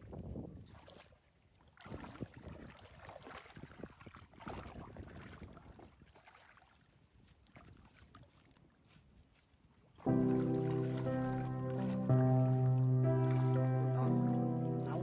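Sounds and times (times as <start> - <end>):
water sloshing around wading person: 0.0 - 15.0.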